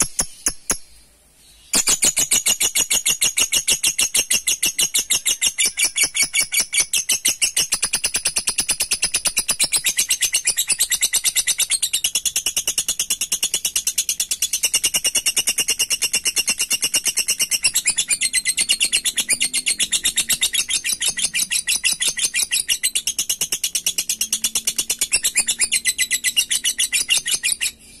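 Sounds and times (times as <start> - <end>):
lovebird chattering trill: 0.0 - 1.0, 1.7 - 28.0.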